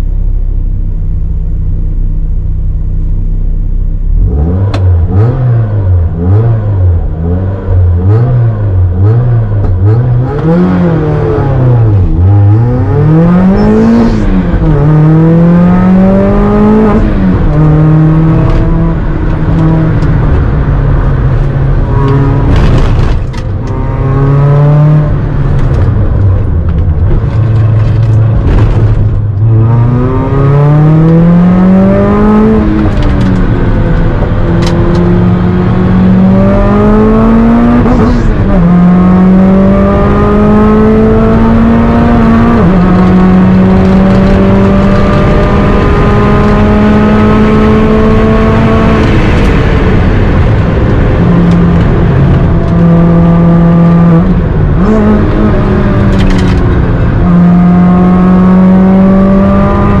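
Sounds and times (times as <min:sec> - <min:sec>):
car engine revving: 0:04.0 - 1:00.0.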